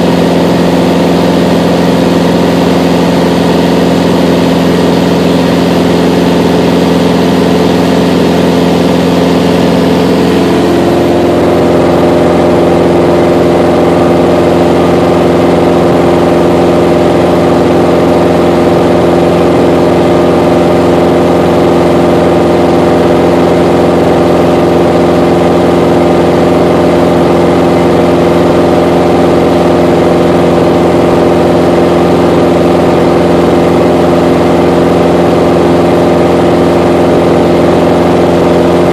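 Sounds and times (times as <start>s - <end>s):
aircraft engine and propeller droning: 0.0s - 38.9s.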